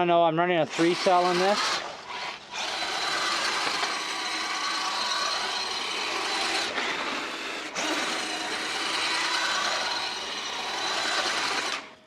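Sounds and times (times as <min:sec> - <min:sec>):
rc truck electric motor whining: 0:00.7 - 0:12.0.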